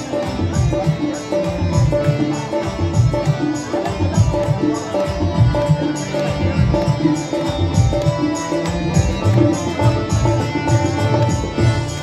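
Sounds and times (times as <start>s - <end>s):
hand drums steady beat: 0.0s - 12.0s.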